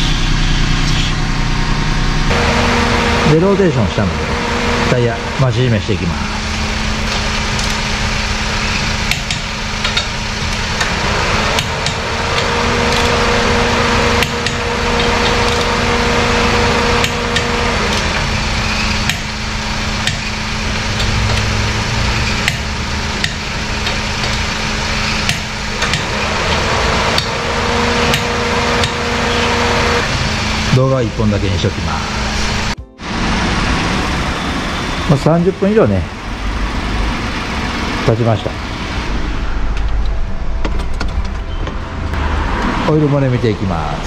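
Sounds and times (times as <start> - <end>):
high mechanical tone: 0.0 - 44.0
steady mechanical hum: 0.0 - 44.0.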